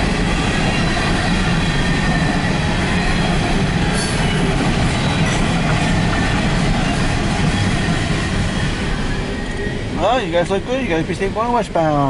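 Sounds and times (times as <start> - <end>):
freight train wheels on rail: 0.0 - 12.0.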